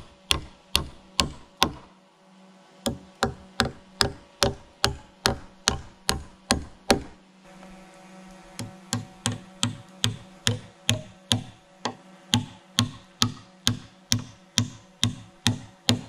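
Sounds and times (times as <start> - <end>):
hammer striking wooden peg: 0.3 - 1.9, 2.9 - 7.2, 8.6 - 16.0.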